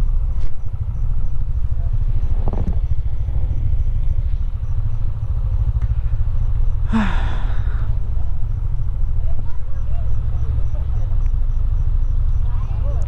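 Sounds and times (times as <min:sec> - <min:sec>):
motorcycle engine rumble: 0:00.0 - 0:13.0
road noise: 0:00.0 - 0:13.0.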